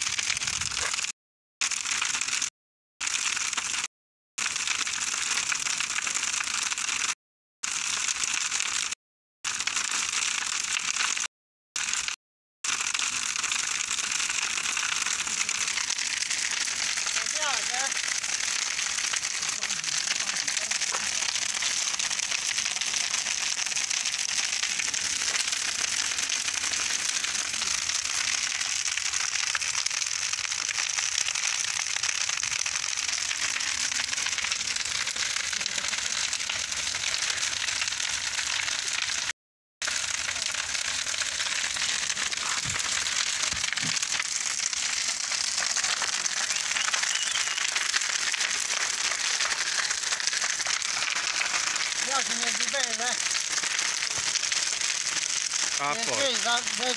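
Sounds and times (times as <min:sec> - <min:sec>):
bonfire crackling and hissing: 0:00.0 - 0:56.9.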